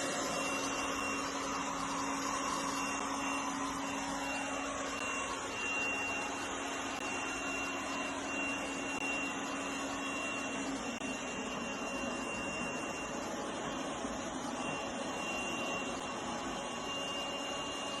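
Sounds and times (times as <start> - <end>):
high whine: 0.0 - 18.0.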